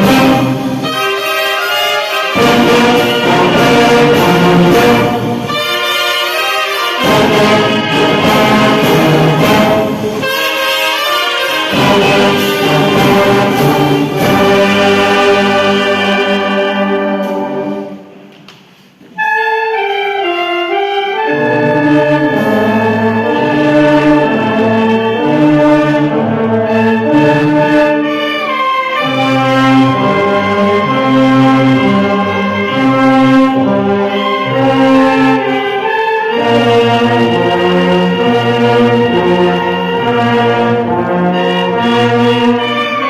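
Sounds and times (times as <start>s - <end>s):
brass band playing a hymn: 0.0s - 18.2s, 19.0s - 43.0s.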